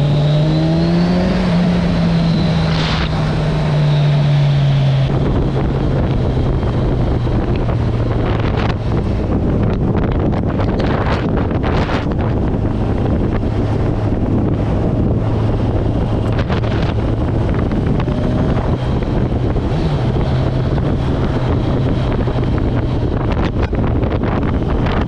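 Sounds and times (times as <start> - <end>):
motorcycle engine cruising: 0.0 - 25.0
wind noise on microphone: 0.0 - 25.0.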